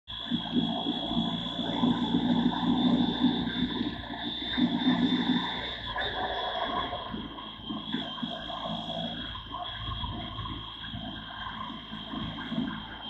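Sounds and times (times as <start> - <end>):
high-pitched whine: 0.1 - 13.0
wind: 0.1 - 13.0.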